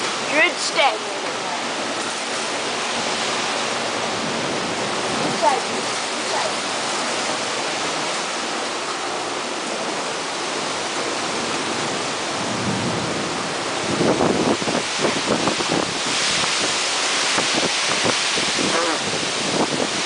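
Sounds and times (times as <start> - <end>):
heavy rain pouring: 0.0 - 20.0
wind gusts buffeting microphone: 0.0 - 20.0.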